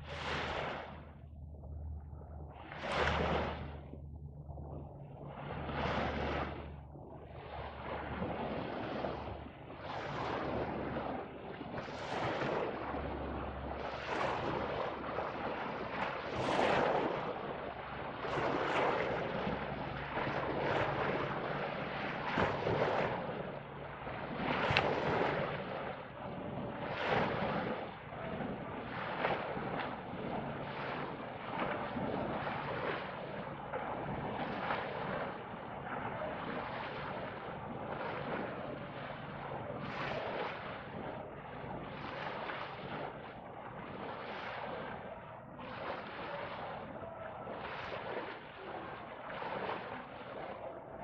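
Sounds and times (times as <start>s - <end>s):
waves washing onto beach: 0.0s - 1.4s, 2.5s - 51.0s
wind on microphone: 0.0s - 51.0s.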